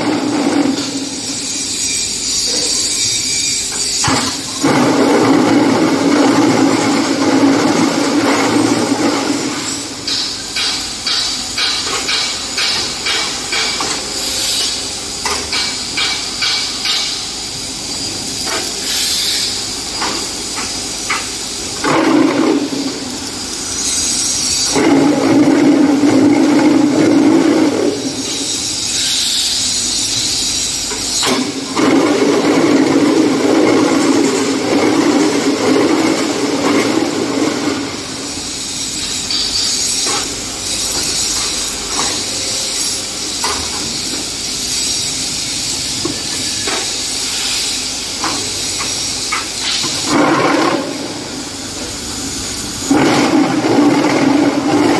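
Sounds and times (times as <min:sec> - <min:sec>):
machine hissing: 0:00.0 - 0:54.9.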